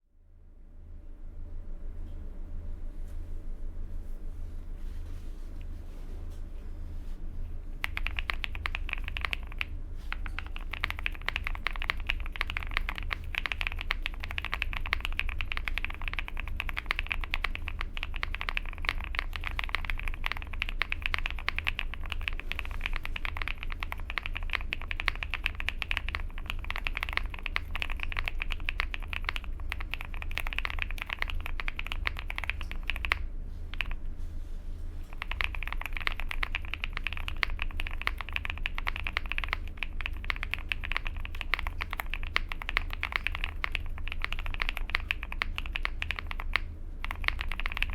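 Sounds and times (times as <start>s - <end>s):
fast mechanical keyboard typing: 7.8s - 34.0s, 35.1s - 47.9s.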